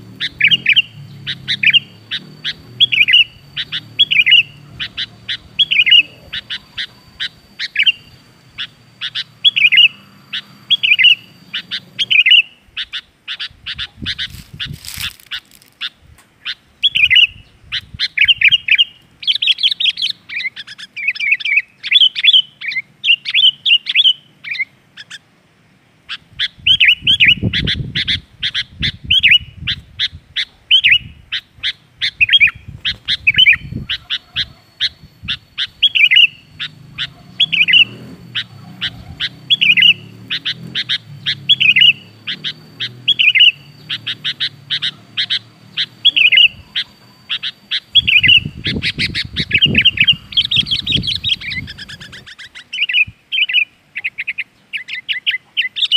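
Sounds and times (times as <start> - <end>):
bird chirping: 0.0 - 25.4, 26.0 - 55.9.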